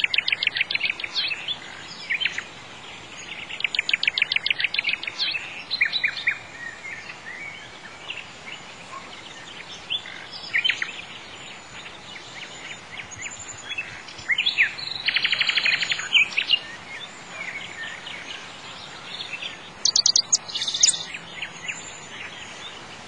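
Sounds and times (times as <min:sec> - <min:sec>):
birds singing and chirping: 0:00.0 - 0:23.0
faint steady hiss: 0:00.0 - 0:23.0.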